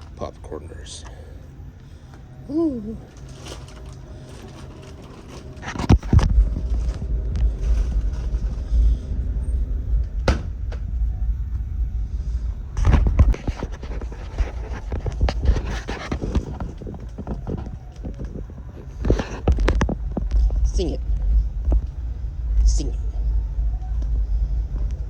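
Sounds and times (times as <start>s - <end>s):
car road rumble inside cabin: 1.4s - 25.0s.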